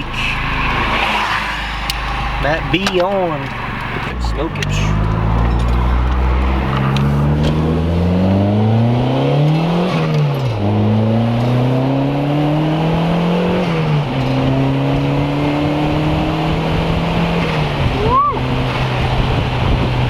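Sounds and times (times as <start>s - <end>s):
car engine accelerating with upshifts: 0.0s - 20.0s.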